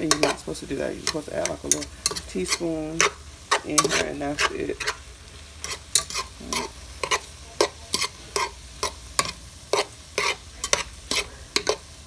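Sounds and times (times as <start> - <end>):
utensil scraping a pot: 0.0 - 11.9
faint sizzle: 0.0 - 12.0.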